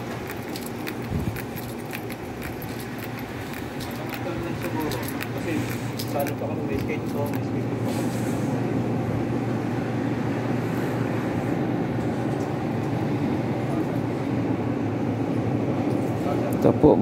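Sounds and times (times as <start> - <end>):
refrigerated chiller hum: 0.0 - 17.0.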